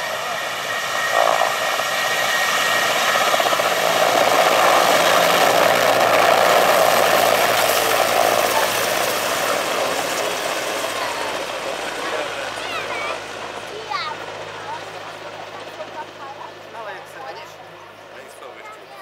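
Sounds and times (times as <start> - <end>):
helicopter flying past: 0.0 - 19.0.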